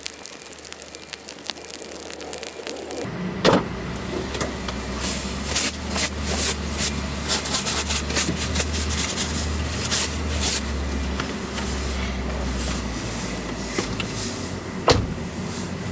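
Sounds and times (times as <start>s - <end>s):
vehicle engine idling: 3.1s - 15.9s.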